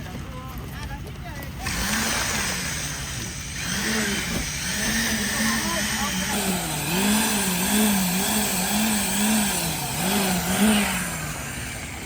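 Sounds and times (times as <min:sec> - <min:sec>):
small engine wavering pitch: 0:01.6 - 0:12.0.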